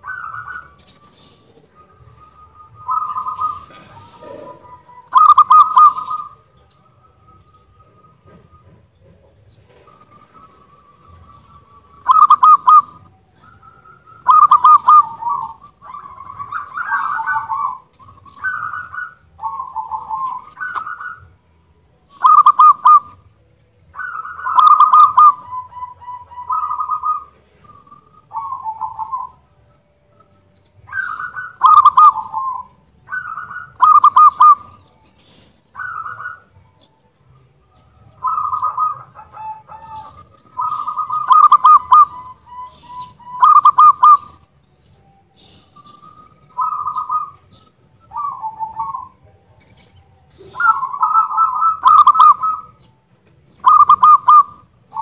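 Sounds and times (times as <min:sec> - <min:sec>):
dove cooing song: 0:00.0 - 0:55.0.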